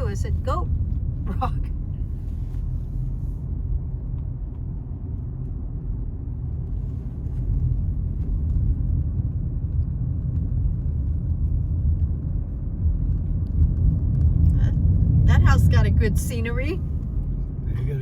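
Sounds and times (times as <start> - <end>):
car driving heard from inside: 0.0 - 18.0.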